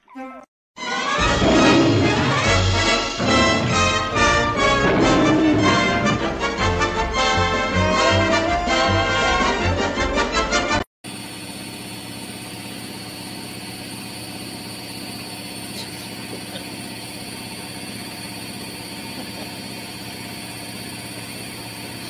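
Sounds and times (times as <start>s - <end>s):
washing machine running: 1.0s - 22.0s.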